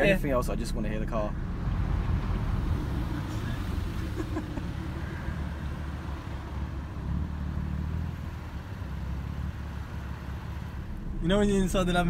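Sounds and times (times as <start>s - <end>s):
car engine droning: 0.0s - 12.0s
tyre and road noise: 0.0s - 12.0s.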